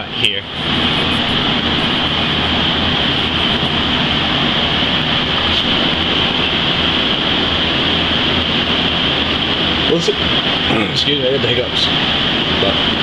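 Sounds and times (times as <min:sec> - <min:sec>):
fan blowing air: 0:00.0 - 0:13.0.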